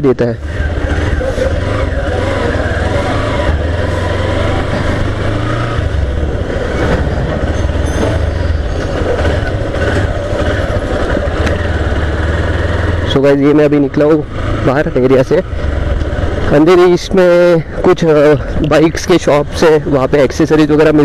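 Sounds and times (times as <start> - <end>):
motorcycle engine running: 0.2 - 21.0.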